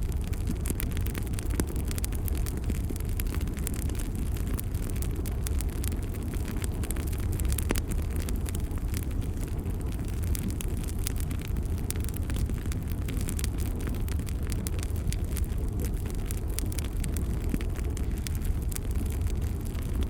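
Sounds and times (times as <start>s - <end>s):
bonfire low rumble: 0.0s - 20.0s
wood crackling and popping: 0.0s - 20.0s.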